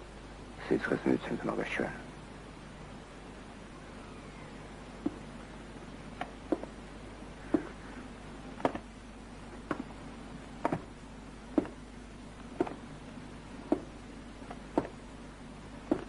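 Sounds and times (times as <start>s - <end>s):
low soundtrack hum: 0.0s - 16.0s.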